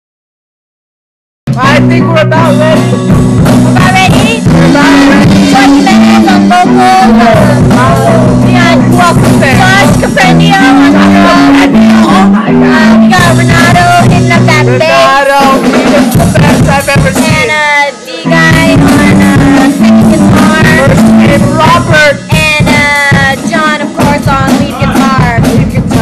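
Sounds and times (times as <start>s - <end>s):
people singing loudly: 3.8s - 26.0s.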